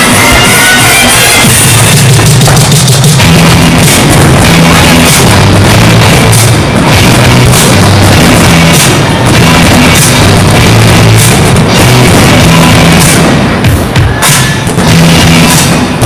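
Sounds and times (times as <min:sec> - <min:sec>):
distorted loud rock music: 0:00.0 - 0:16.0.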